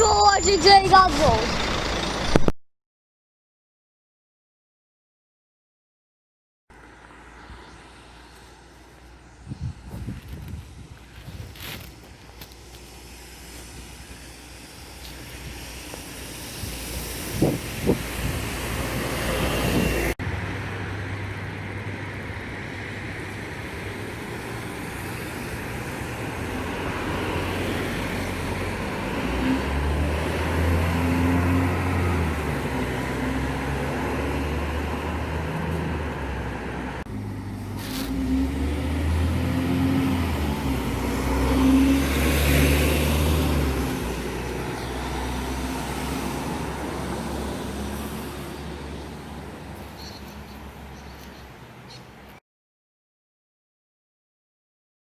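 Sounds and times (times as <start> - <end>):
road traffic: 0.0 - 2.5, 6.7 - 52.4
large vehicle engine accelerating: 0.1 - 2.4, 6.7 - 52.4.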